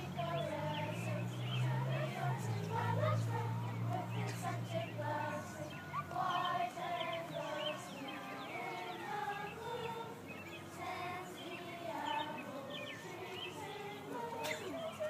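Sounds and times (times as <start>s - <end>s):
children chattering and calling: 0.0s - 15.0s
children singing held notes: 0.0s - 15.0s.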